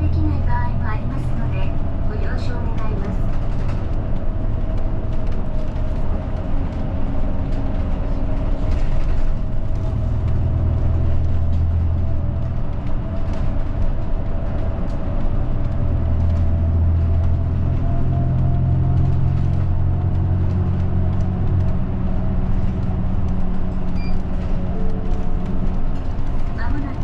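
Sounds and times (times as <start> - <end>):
bus engine hum: 0.0 - 27.0
road noise: 0.0 - 27.0.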